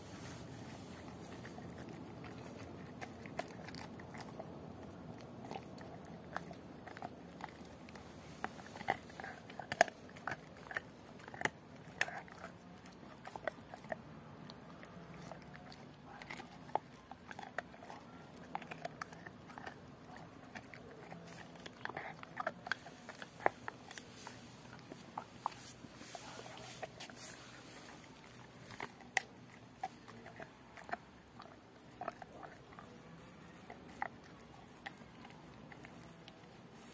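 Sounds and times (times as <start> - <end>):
dog gnawing a bone: 0.0 - 36.9.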